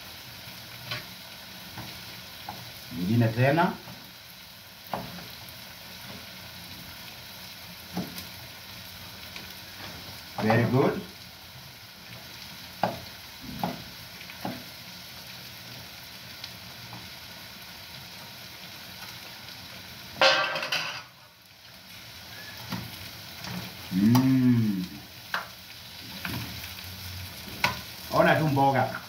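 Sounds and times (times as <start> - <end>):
sausage sizzling in a frying pan: 0.0 - 29.0.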